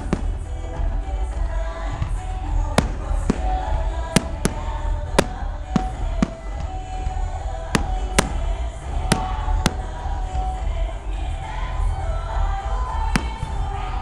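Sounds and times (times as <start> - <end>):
fireworks bangs: 0.0 - 10.8, 13.0 - 14.0.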